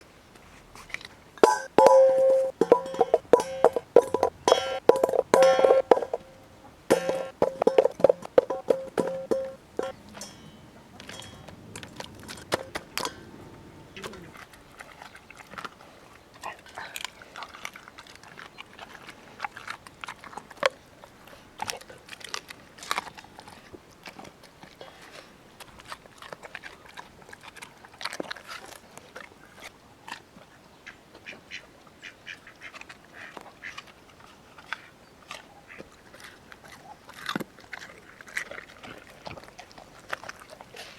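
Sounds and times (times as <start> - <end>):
dog chewing food: 0.3 - 30.6, 32.3 - 40.9.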